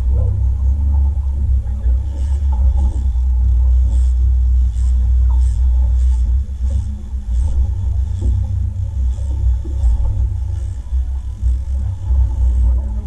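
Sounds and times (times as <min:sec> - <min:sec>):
boat engine low rumble: 0:00.0 - 0:13.0
soft pulsing hiss: 0:00.0 - 0:13.0.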